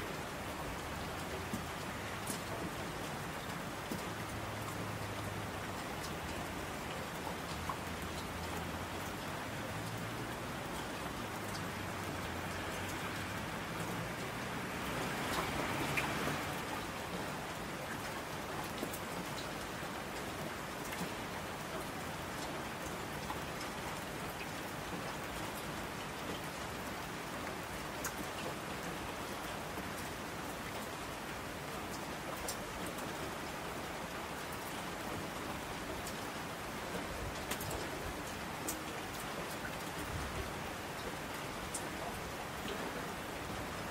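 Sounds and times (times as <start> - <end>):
raindrops pattering: 0.0 - 43.9
steady rain falling: 0.0 - 43.9.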